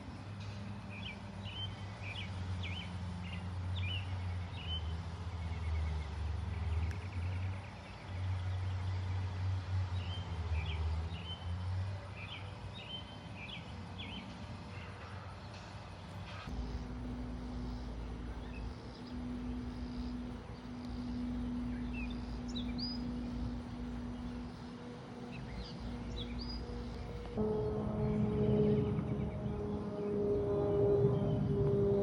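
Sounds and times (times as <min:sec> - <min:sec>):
small birds chirping: 0:00.2 - 0:27.4
steady low rumble: 0:06.1 - 0:32.0.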